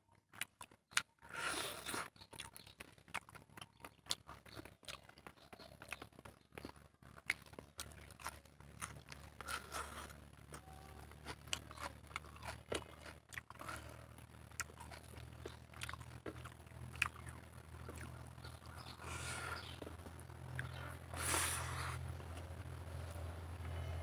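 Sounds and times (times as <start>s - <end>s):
chewing with crunches: 0.0s - 24.0s
faint low hum: 0.0s - 24.0s.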